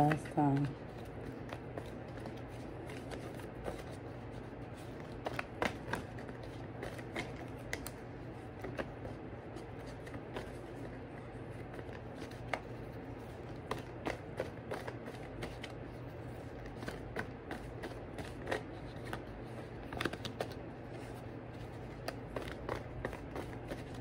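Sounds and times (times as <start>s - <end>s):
cards being shuffled: 0.0s - 24.0s
steady low hum: 0.0s - 24.0s.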